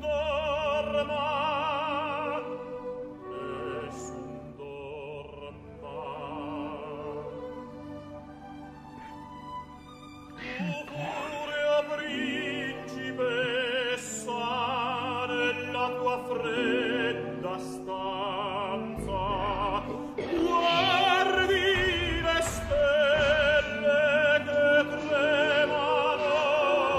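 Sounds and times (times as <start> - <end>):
opera singing voice: 0.0 - 9.6, 10.3 - 26.9
low steady accompaniment: 0.0 - 26.9.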